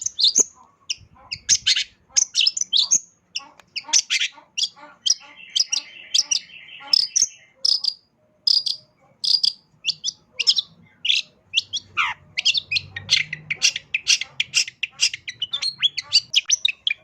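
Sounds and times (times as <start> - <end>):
bird singing high chirps: 0.0 - 17.0.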